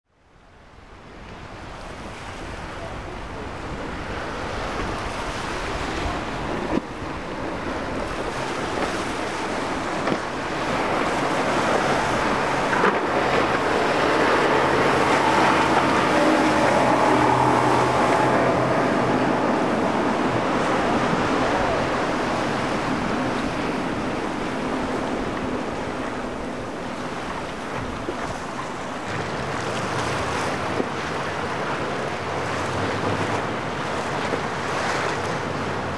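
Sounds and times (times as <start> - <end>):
boat engines droning: 0.2 - 35.9
surf: 0.3 - 35.9
wind on microphone: 0.8 - 35.9.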